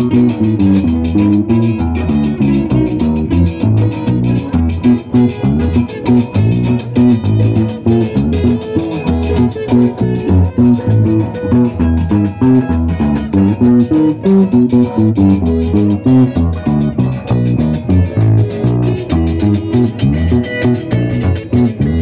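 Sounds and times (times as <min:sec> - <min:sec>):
bass line: 0:00.0 - 0:22.0
plucked string melody: 0:00.0 - 0:22.0
steady dance beat: 0:00.0 - 0:22.0.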